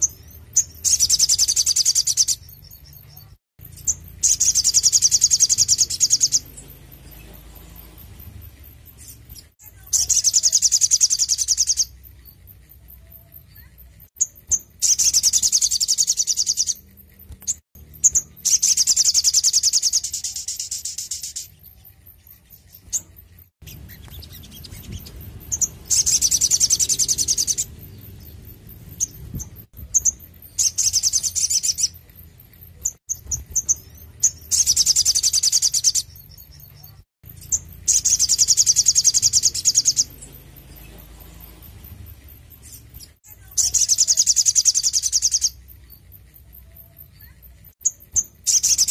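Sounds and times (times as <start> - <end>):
bird chirps: 0.0 - 48.9
sunbird trilling: 0.0 - 48.9.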